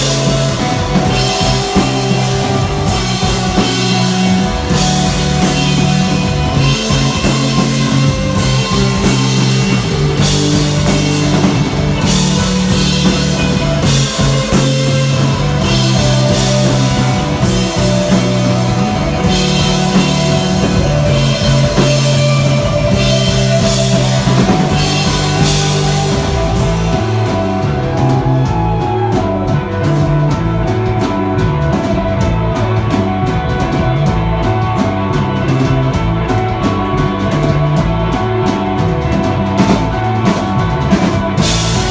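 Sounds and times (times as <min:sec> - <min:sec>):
rock band playing: 0:00.0 - 0:41.9.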